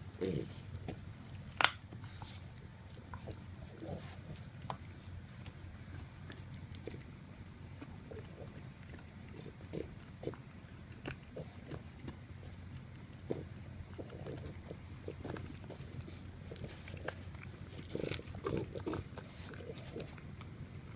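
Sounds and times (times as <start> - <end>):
dog chewing: 0.1 - 20.9.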